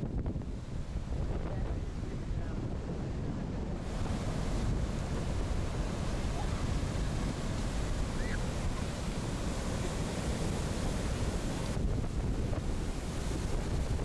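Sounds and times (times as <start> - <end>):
storm surf washing: 0.0 - 14.0
wind buffeting microphone: 0.0 - 14.0.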